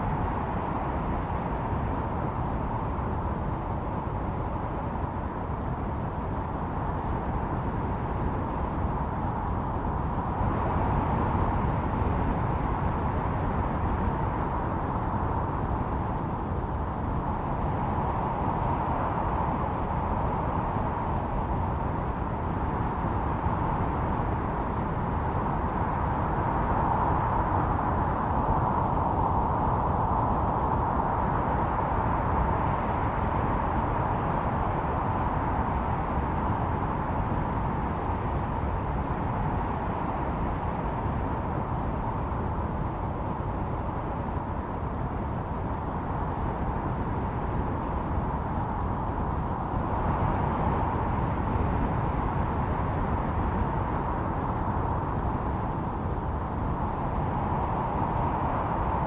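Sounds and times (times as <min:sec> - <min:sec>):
howling snowstorm wind: 0:00.0 - 0:59.0.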